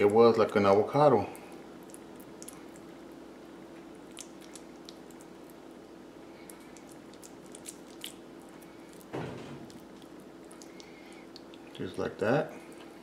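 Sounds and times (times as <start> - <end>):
steady low hum: 0.0 - 13.0
wet squishing of food by hands: 0.0 - 13.0.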